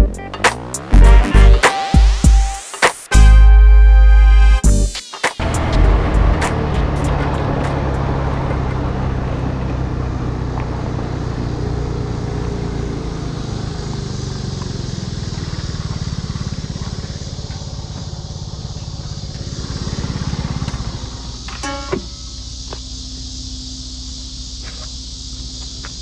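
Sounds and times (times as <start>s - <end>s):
road noise: 0.0s - 26.0s
vehicle engine drone: 0.0s - 26.0s.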